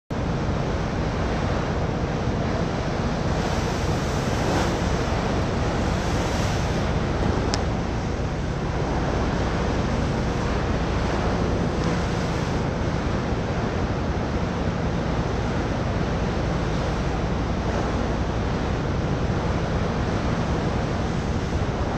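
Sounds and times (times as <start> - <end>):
low engine drone: 0.1 - 21.9
water noise from boat: 0.1 - 21.9
wind on microphone: 0.1 - 21.9.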